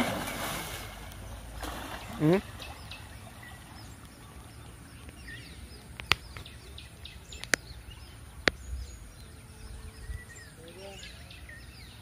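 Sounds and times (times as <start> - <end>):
steady outdoor background: 0.0 - 12.0
small birds chirping: 1.1 - 12.0.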